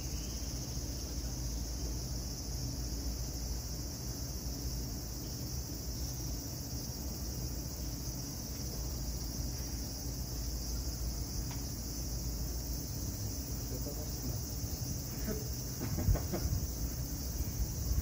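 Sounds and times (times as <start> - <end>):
insects droning: 0.0 - 18.0
low background hum: 0.0 - 18.0.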